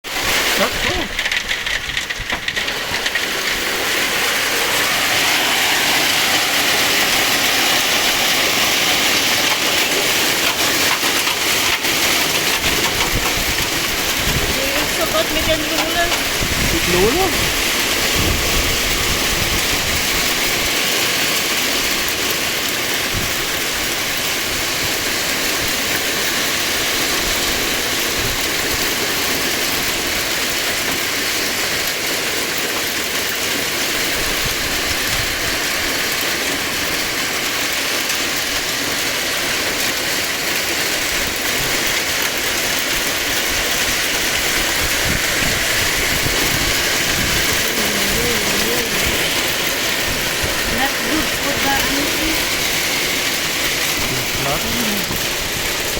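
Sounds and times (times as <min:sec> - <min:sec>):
heavy rain and hail: 0:00.0 - 0:55.9.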